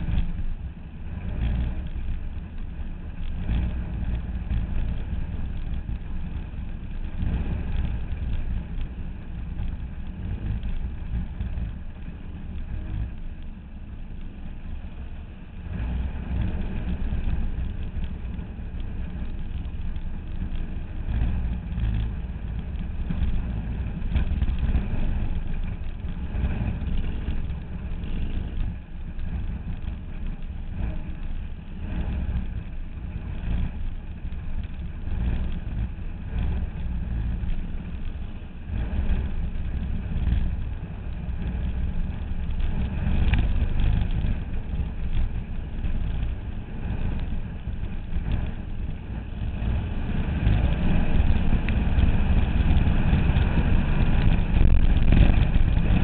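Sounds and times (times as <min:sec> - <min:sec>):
race car engines idling: 0:00.0 - 0:56.0.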